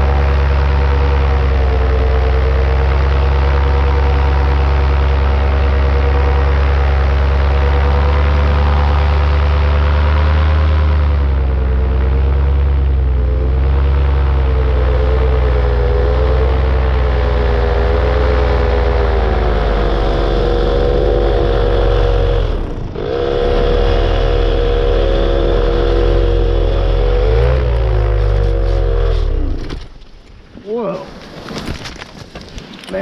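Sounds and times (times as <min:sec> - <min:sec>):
paramotor engine running: 0:00.0 - 0:30.1.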